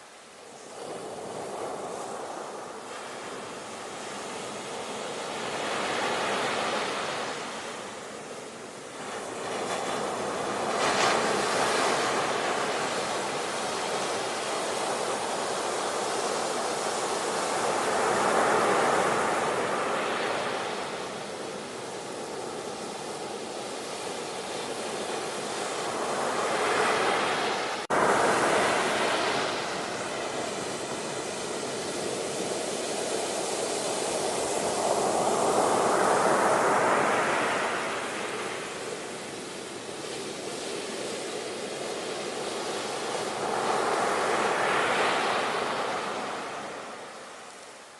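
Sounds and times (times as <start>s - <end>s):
ocean waves breaking: 0.4s - 47.6s.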